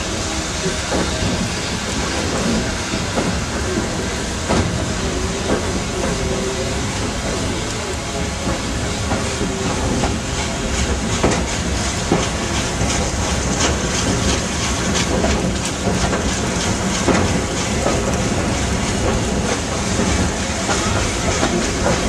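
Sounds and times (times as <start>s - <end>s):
steam locomotive working: 0.0s - 22.0s
train running noise: 0.0s - 22.0s
train wheels clicking over rail joints: 0.0s - 22.0s.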